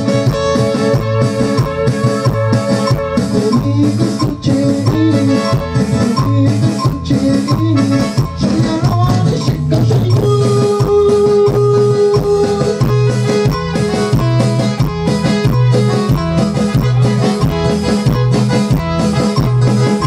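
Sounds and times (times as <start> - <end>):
electric guitar: 0.0 - 20.0
electronic keyboard: 0.0 - 20.0
repeating bass line: 0.0 - 20.0
steady drum beat: 0.0 - 20.0.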